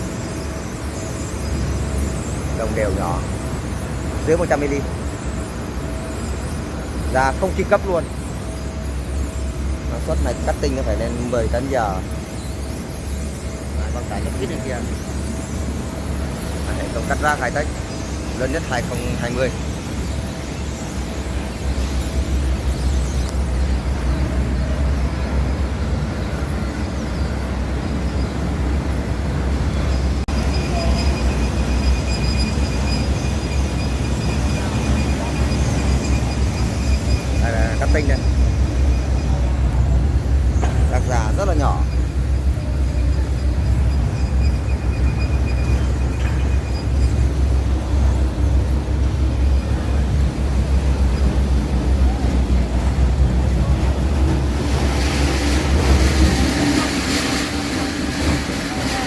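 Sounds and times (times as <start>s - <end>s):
high whine: 0.0s - 59.0s.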